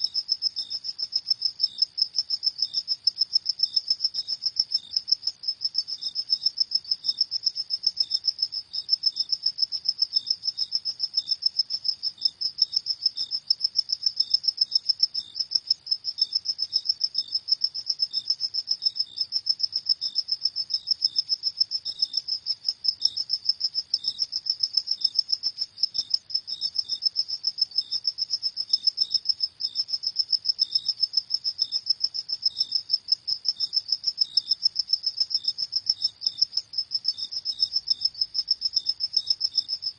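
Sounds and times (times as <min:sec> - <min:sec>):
slower lower cricket chirp: 0:00.0 - 0:39.9.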